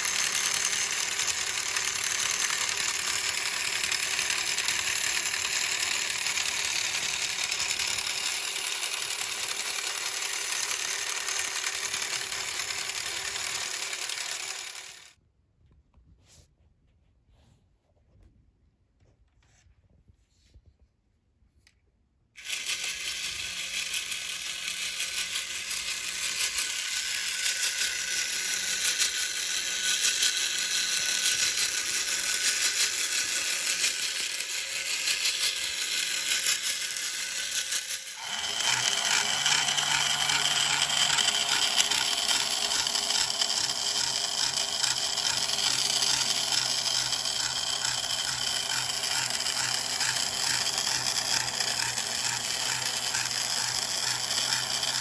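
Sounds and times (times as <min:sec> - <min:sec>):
tin toy gears rattling: 0:00.0 - 0:15.2, 0:22.4 - 0:55.0
toy car motor whirring: 0:00.0 - 0:15.2, 0:22.4 - 0:55.0.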